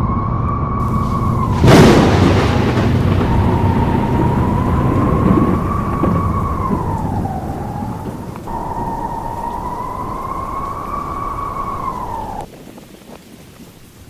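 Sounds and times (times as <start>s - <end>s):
low rumble: 0.8s - 12.5s
thunder-like crash: 0.8s - 12.5s.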